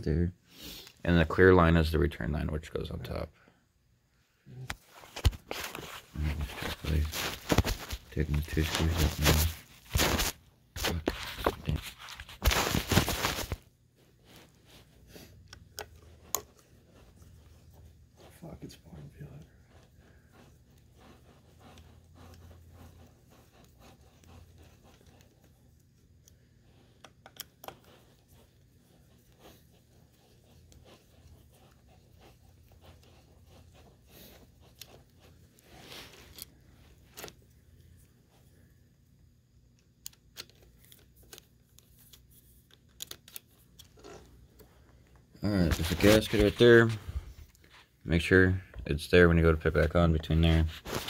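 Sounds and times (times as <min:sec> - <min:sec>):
phone rustling and rubbing: 0:04.7 - 0:38.7, 0:40.1 - 0:51.0.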